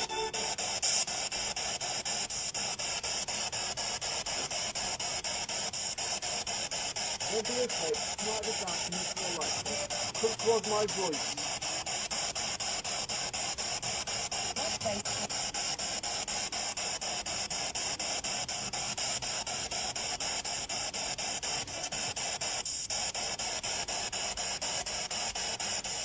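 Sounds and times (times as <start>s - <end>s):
radio scanner static sweeping: 0.0s - 26.0s.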